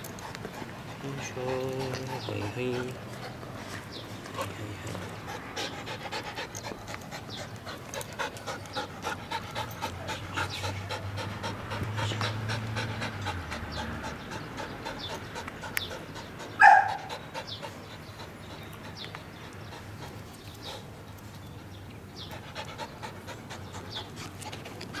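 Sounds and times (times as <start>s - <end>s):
puppy panting: 0.0s - 25.0s.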